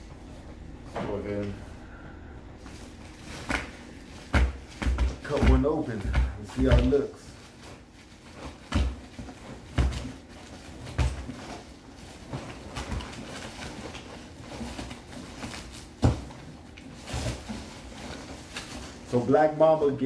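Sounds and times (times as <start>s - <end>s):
packing paper rustling: 2.6s - 20.0s.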